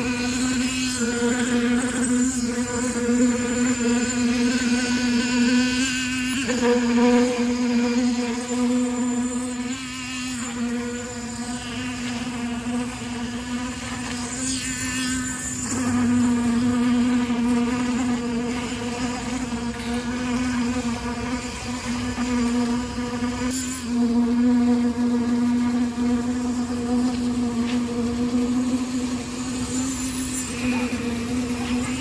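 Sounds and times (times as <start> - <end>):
small motor buzzing: 0.0 - 32.0.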